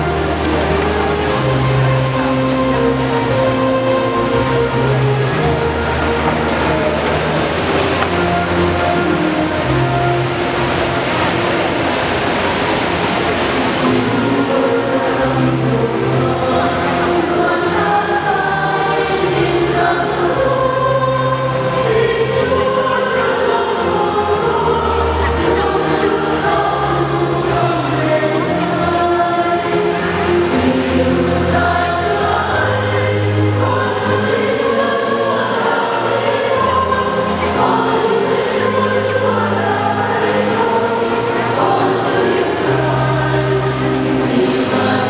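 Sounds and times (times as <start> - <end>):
church choir singing hymn: 0.0 - 45.0.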